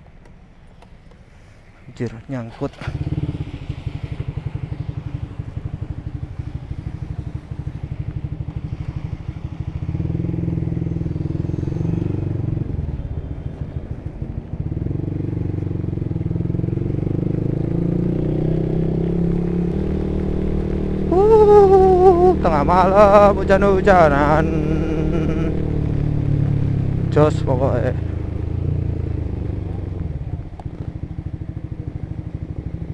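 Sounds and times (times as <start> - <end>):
motorcycle engine revving: 2.5 - 32.9.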